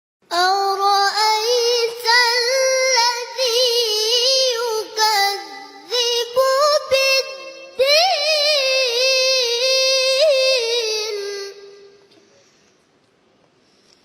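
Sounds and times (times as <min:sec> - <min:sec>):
high voice chanting recitation: 0:00.3 - 0:12.6.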